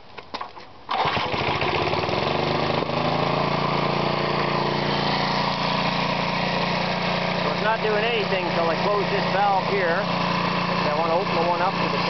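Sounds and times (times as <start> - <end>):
lawnmower engine running: 0.9 - 12.0.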